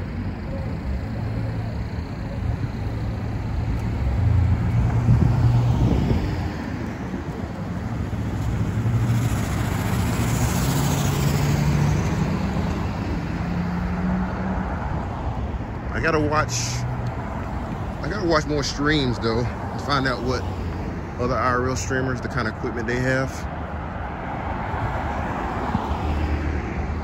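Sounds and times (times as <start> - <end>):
cars passing: 0.0 - 27.0.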